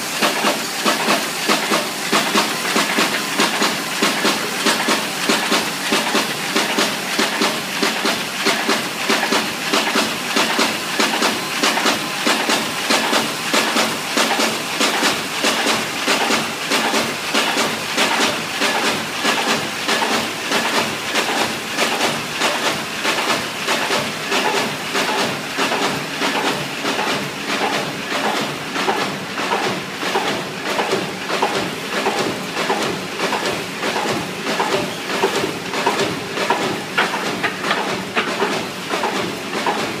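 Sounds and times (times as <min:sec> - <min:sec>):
creasing machine clattering: 0:00.0 - 0:40.0.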